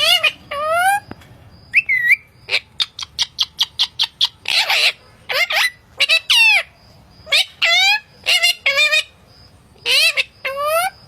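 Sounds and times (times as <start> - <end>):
parrot calling and squawking: 0.0 - 1.0, 1.7 - 9.2, 9.8 - 11.0.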